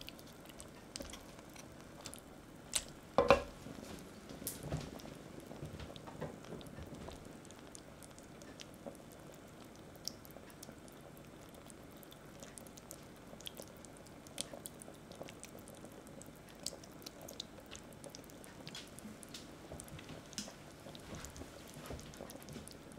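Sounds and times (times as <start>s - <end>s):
small pops and crackles: 0.0s - 22.9s
stew bubbling in a pot: 0.0s - 22.9s.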